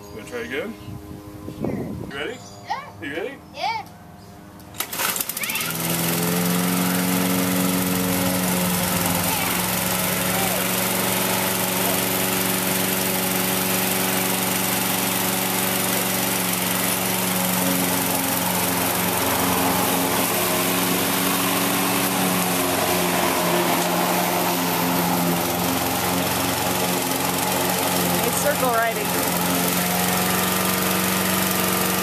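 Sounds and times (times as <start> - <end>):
lawn mower engine running: 3.6 - 32.0.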